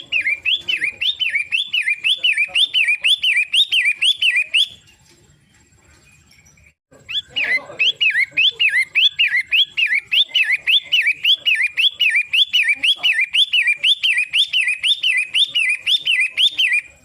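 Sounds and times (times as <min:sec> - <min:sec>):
bird chirping rapidly: 0:00.0 - 0:17.0.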